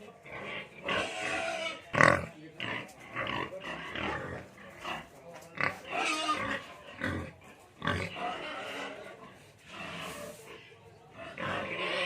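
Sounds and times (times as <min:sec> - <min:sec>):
pigs grunting: 0:00.0 - 0:10.5, 0:11.1 - 0:12.0.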